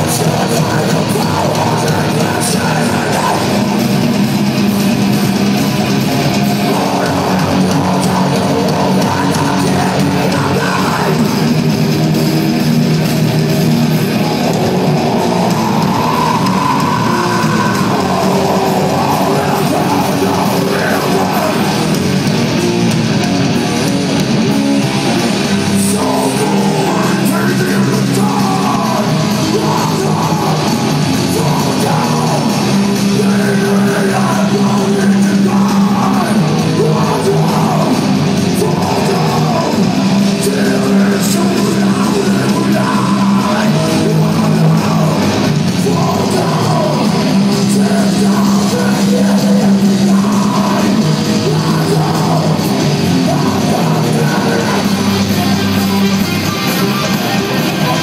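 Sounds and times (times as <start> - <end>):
bass guitar: 0.0 - 58.0
distorted electric guitar: 0.0 - 58.0
drums: 0.0 - 58.0.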